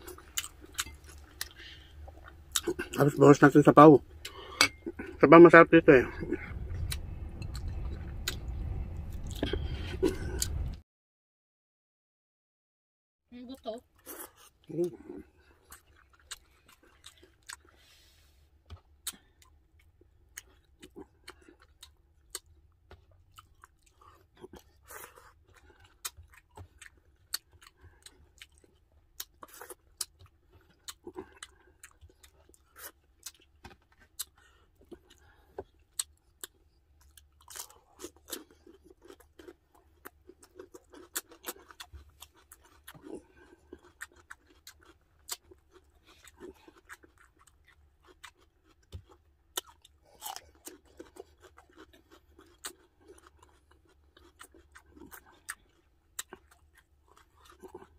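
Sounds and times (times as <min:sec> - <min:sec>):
close chewing and mouth sounds: 0:00.0 - 0:10.8, 0:13.3 - 0:57.9.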